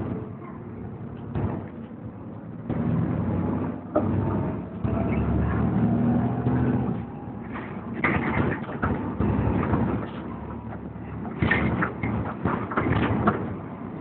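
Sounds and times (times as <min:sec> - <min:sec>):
bus body rattling and knocking: 0:00.0 - 0:14.0
bus engine and road rumble: 0:00.0 - 0:14.0.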